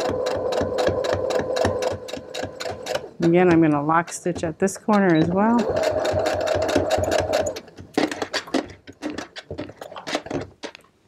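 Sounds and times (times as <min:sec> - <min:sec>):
sewing machine stitching: 0:00.0 - 0:10.3
irregular clicks and knocks: 0:00.0 - 0:11.0.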